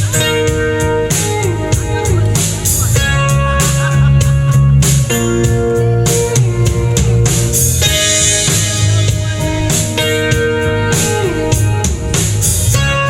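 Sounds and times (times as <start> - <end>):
guitars: 0.0 - 13.0
steady drum beat: 0.0 - 13.0.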